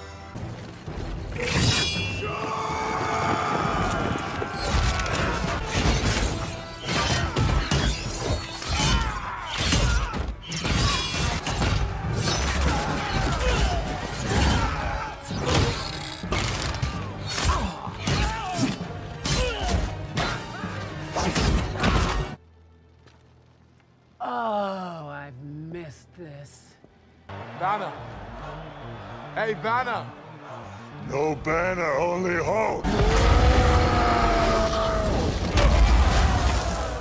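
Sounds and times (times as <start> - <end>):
film music: 0.0 - 37.0.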